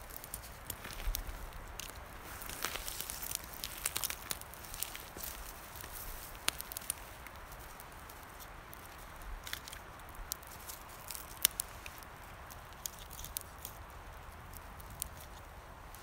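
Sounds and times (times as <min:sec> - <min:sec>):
campfire crackling and popping: 0:00.0 - 0:16.0
faint steady hiss: 0:00.0 - 0:16.0.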